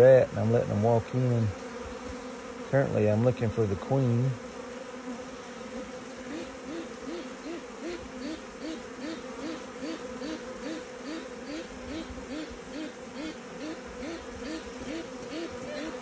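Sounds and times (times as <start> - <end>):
bee swarm buzzing: 0.0 - 16.0.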